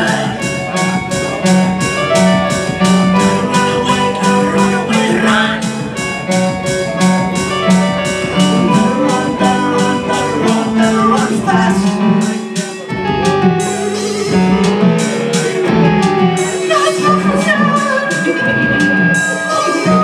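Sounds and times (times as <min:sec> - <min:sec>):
drum machine ticking: 0:00.0 - 0:20.0
electric bass: 0:00.0 - 0:20.0
electric guitar: 0:00.0 - 0:20.0
synthesizer: 0:00.0 - 0:20.0.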